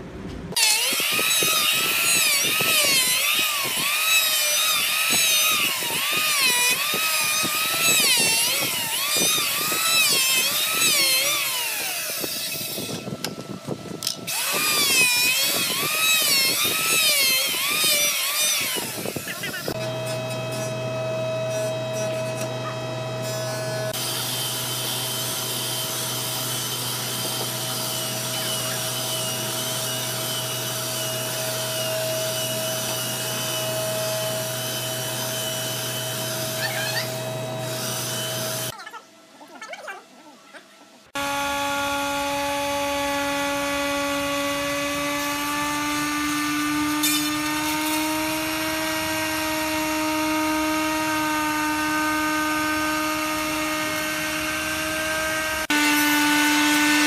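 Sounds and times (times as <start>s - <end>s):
electric router running: 0.6s - 38.7s, 41.1s - 57.0s
belt sander on wood: 0.6s - 38.8s, 41.1s - 57.0s.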